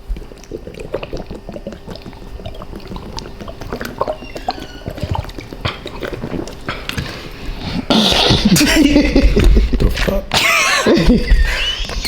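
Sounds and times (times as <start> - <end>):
people gulping water: 0.0 - 12.0.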